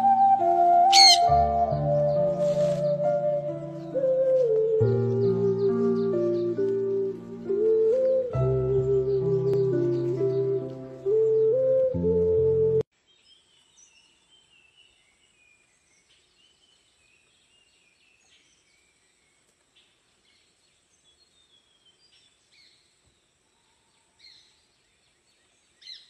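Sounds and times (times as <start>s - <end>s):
faint birdsong: 0.0s - 26.0s.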